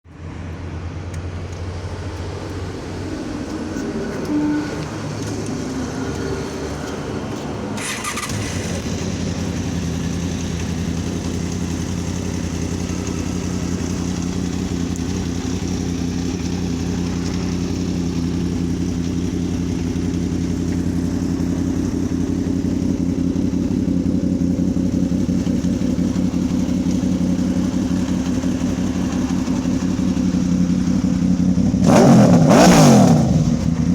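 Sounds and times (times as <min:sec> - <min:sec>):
motorcycle engine running: 0:01.4 - 0:33.9.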